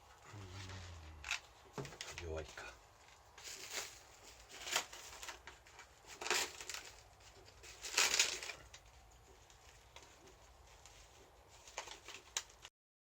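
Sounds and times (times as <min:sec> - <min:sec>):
short rustling: 0:00.0 - 0:12.7.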